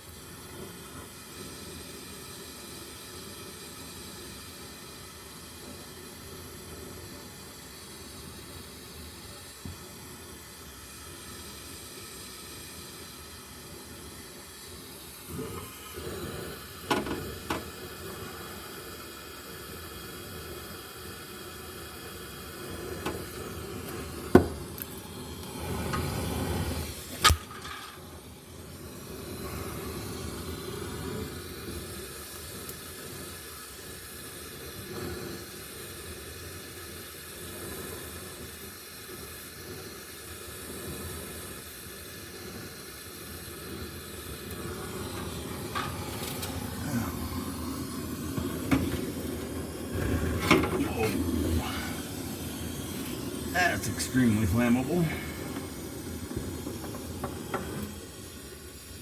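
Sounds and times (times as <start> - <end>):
gas torch hissing: 0.0 - 59.0.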